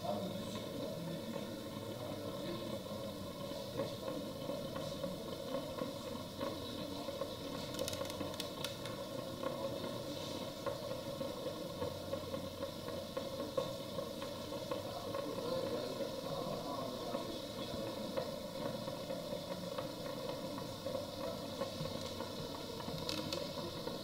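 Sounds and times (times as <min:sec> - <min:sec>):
facial steamer hum and hiss: 0:00.0 - 0:24.0.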